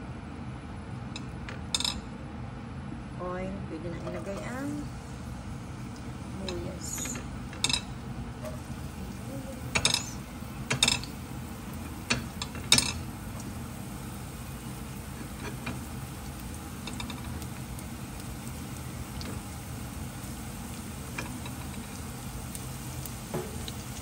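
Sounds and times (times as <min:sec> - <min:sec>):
onion frying in oil: 0:03.9 - 0:24.0.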